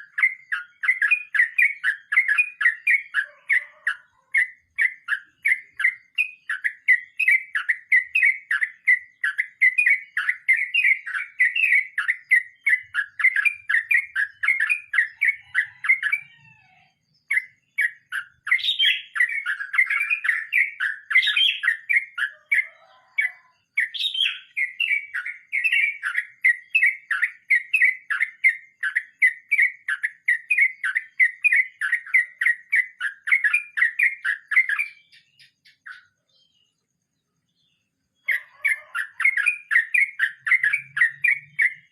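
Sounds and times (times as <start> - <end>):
bird singing bubbly song: 0.0 - 41.9.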